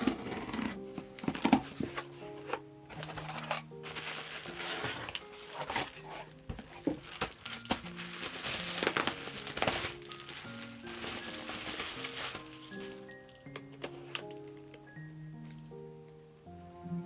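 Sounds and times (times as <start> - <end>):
packaging crinkling and rustling: 0.0 - 14.8
background music with sustained notes: 0.0 - 17.0.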